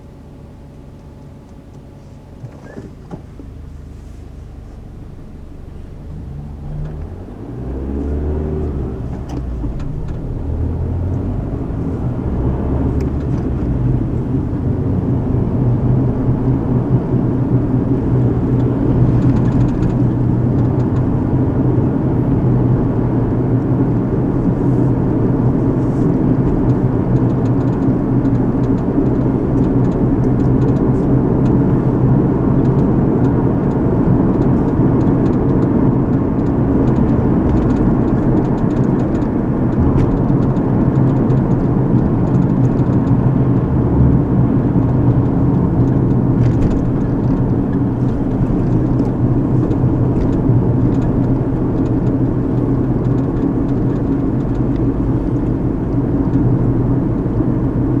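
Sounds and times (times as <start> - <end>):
car engine accelerating: 0.0 - 58.0
tyre road noise: 1.7 - 58.0.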